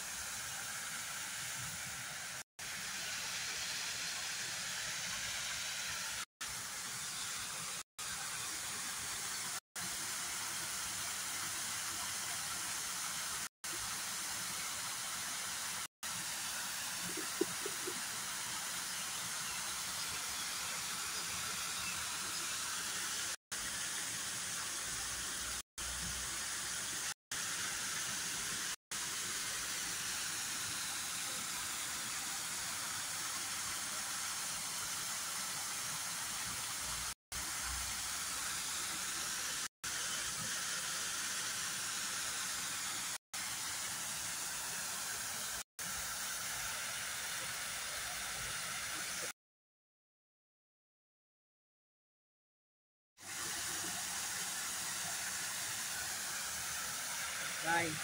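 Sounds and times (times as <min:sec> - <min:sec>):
high-pitched park ambience hiss: 0:00.0 - 0:49.3, 0:53.2 - 0:58.0.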